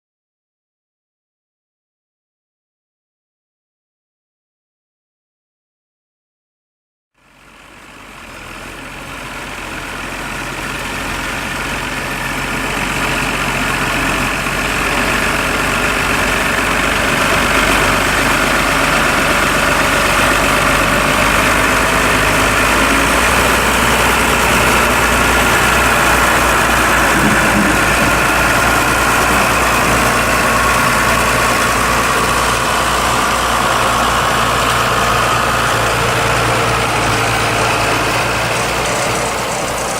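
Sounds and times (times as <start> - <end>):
diesel tractor engine running: 7.2 - 39.9.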